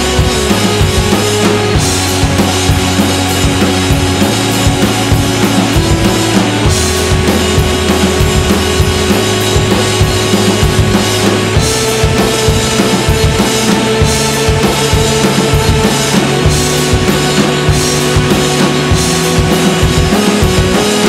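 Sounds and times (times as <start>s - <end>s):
rock music with fast drum beat: 0.0s - 21.0s.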